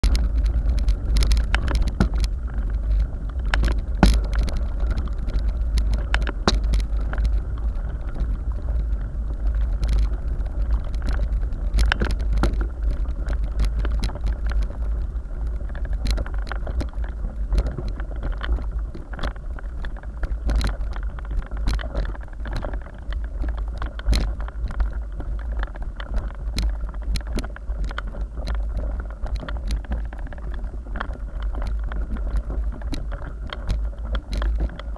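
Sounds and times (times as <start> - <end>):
stones and bike parts rattling: 0.0 - 34.9
wind and vibration rumble on microphone: 0.0 - 34.9.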